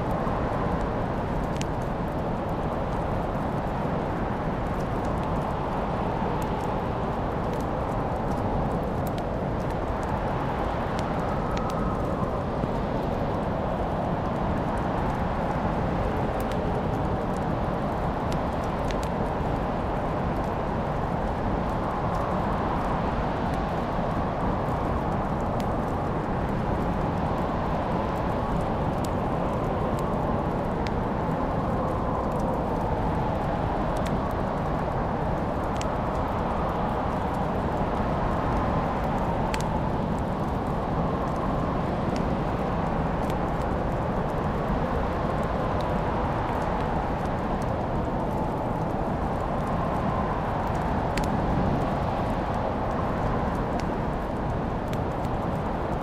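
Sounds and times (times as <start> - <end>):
fire crackling pops: 0.0 - 56.0
wood fire burning: 0.0 - 56.0.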